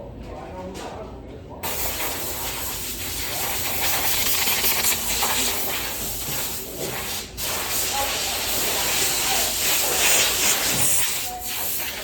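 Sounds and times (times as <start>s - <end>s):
compressed air hissing: 1.6s - 12.0s.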